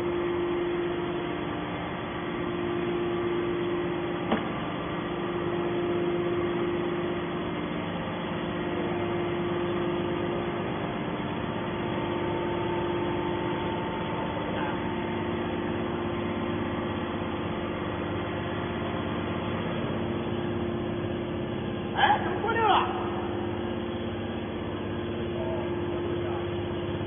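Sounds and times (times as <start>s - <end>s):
hydraulic motor and pump hum: 0.0s - 27.0s.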